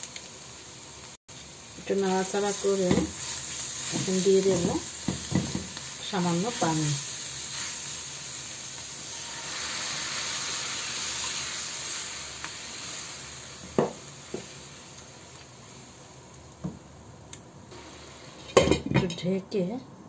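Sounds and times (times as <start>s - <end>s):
masala sizzling in a pan: 0.0s - 19.8s.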